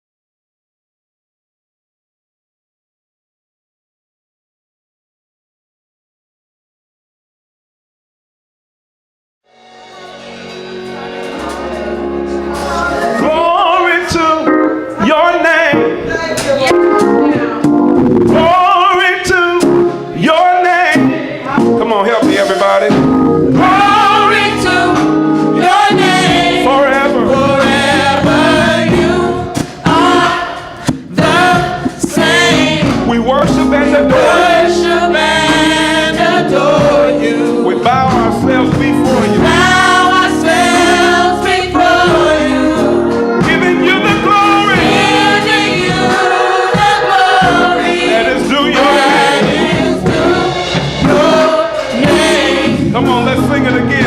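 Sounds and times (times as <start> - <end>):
musical accompaniment: 9.4 - 54.0
group singing gospel: 9.6 - 54.0.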